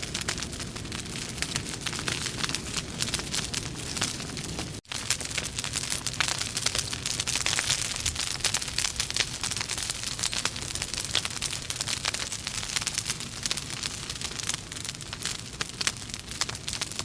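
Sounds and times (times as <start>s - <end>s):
logs crackling in fireplace: 0.0s - 17.0s.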